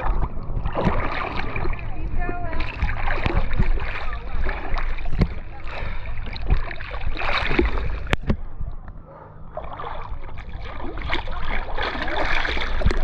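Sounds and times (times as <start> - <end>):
river water splashing and gurgling: 0.0 - 13.0
water slapping against boat: 0.0 - 13.0.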